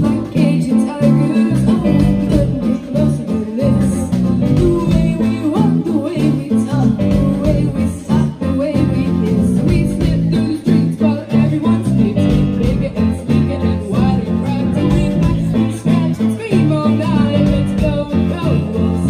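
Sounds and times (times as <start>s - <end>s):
bouncing bass line: 0.0s - 19.0s
girl singing lead: 0.0s - 19.0s
live rock band playing: 0.0s - 19.0s.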